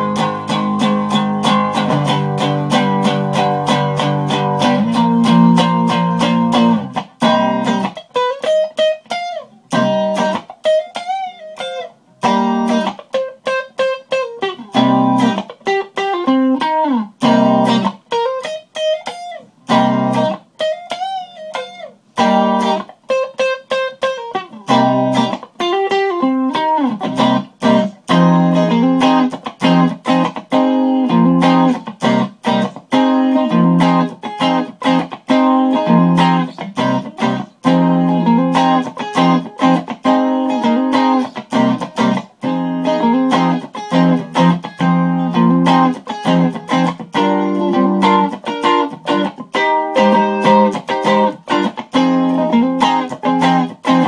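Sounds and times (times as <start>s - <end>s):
funk electric guitar: 0.0s - 54.0s.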